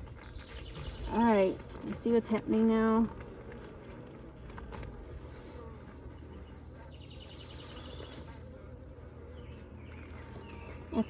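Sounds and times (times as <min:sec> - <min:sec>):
honeybees humming: 0:00.0 - 0:11.0.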